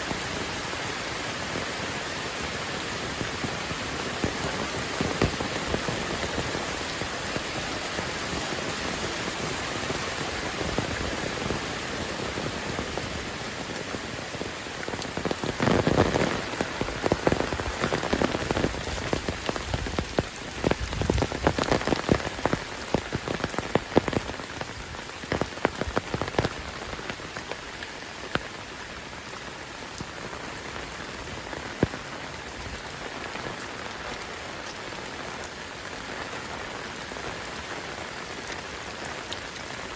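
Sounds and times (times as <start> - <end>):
heavy rain falling: 0.0 - 39.9
raindrops tapping and splashing: 0.0 - 39.9.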